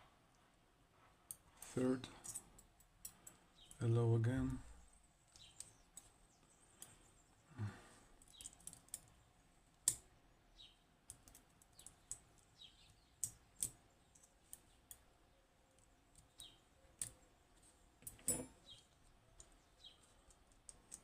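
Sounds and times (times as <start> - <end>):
light clicks of metal parts: 0.3 - 10.2, 11.0 - 21.0.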